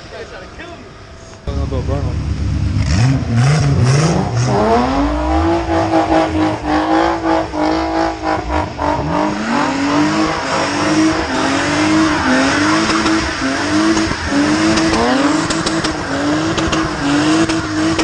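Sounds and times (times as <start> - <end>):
car engine revving high: 1.5 - 18.0.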